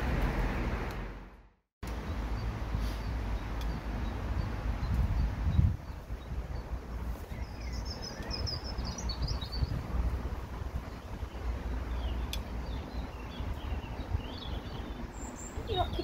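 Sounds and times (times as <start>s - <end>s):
small birds chirping: 1.9s - 16.0s.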